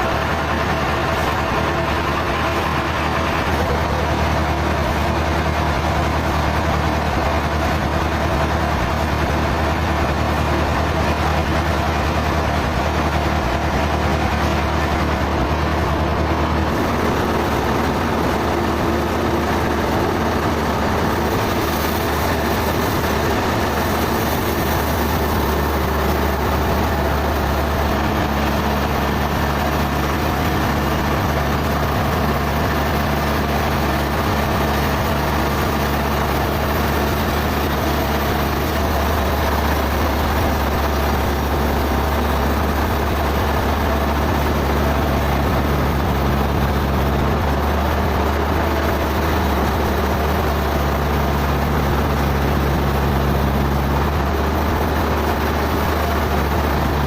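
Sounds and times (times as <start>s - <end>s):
heavy engine running: 0.0s - 57.0s.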